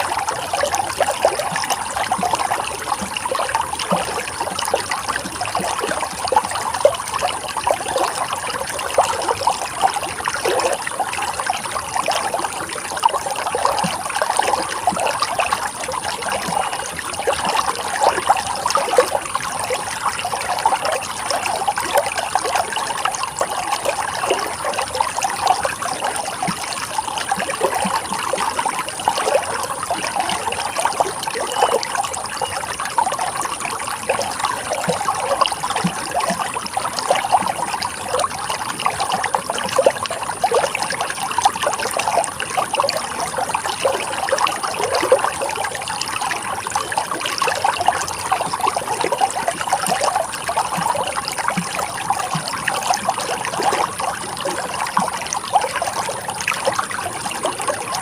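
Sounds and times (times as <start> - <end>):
water trickling and flowing: 0.0 - 58.0.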